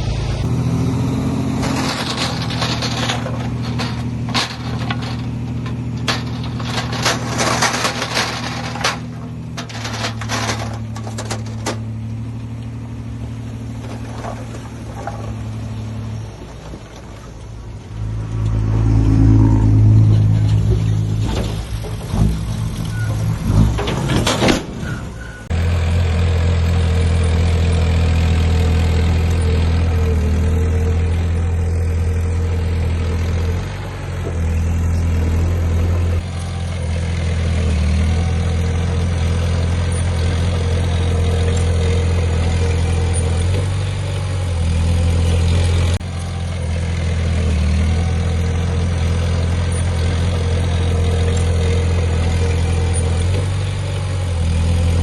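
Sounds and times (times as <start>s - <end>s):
diesel engine running loudly: 0.0s - 15.9s, 16.9s - 24.4s, 25.3s - 55.0s
diesel engine revving under load: 0.0s - 55.0s.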